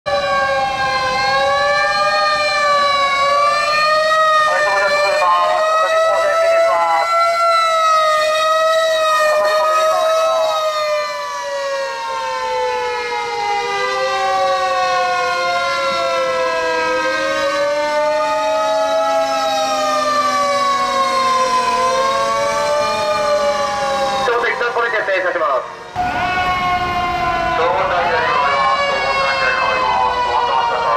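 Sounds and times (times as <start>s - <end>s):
siren pitch sliding lower: 0.1s - 25.0s, 25.7s - 30.9s
siren wailing: 0.1s - 30.9s.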